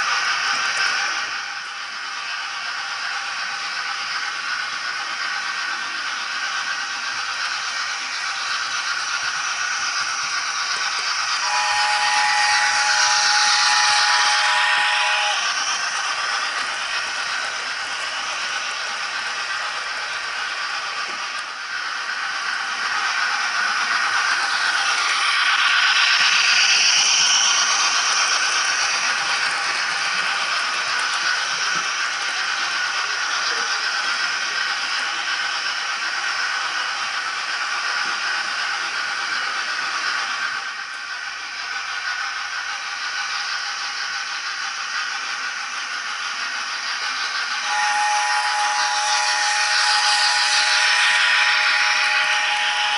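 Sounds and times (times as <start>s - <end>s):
model locomotive steam sounds: 0.0s - 52.9s
steam hiss: 0.0s - 52.9s
wheels rattling on track: 0.0s - 52.9s.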